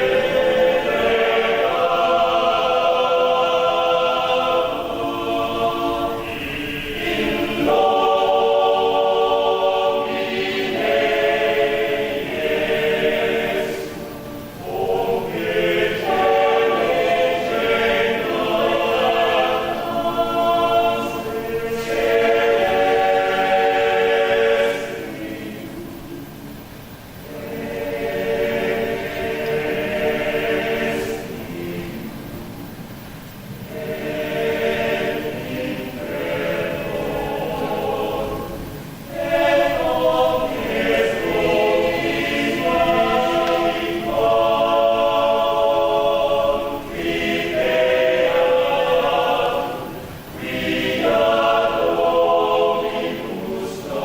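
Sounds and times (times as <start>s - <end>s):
mixed choir singing a hymn: 0.0s - 54.0s.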